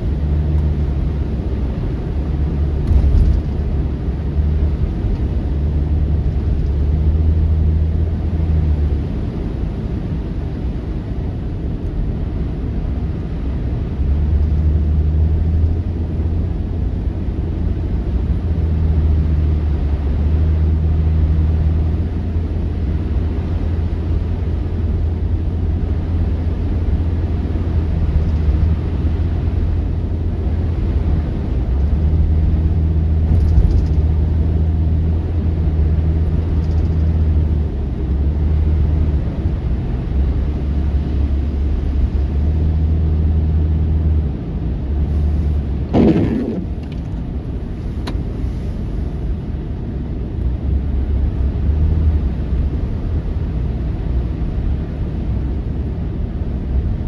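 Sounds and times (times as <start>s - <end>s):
engine rumbling: 0.0s - 57.0s.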